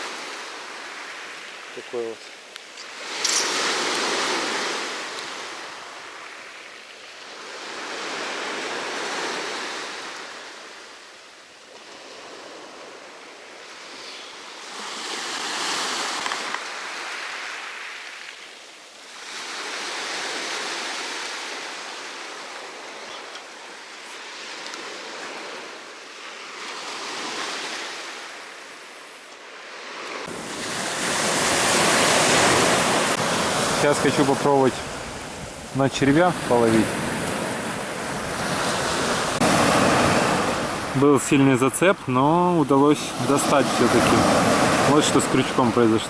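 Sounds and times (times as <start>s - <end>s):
waves breaking on beach: 0.0s - 46.0s.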